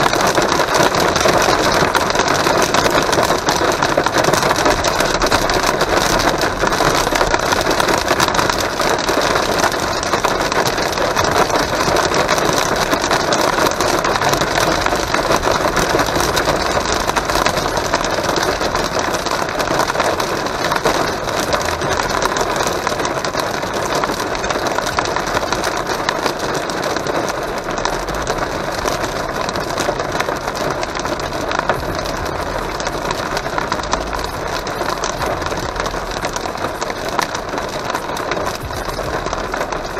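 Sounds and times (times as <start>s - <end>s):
rain and hail on car roof: 0.0s - 39.9s.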